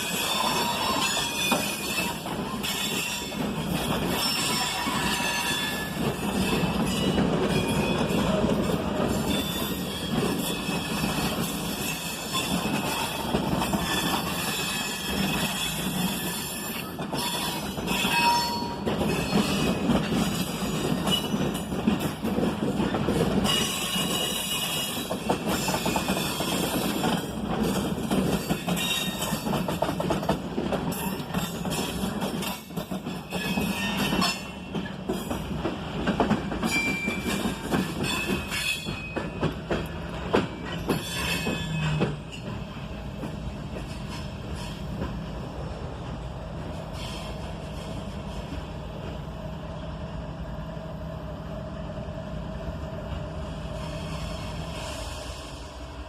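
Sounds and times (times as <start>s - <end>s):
train wheels clacking over rail joints: 0.0s - 45.3s.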